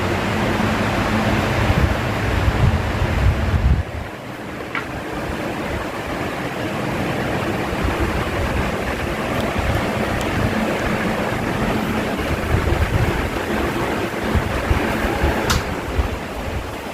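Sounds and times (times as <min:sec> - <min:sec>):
fan wind buffeting microphone: 0:00.0 - 0:16.9.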